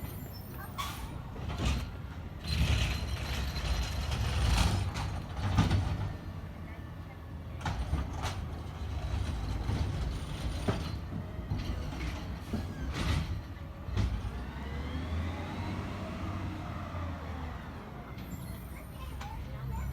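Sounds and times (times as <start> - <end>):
garbage truck engine rumble: 0.0 - 19.9.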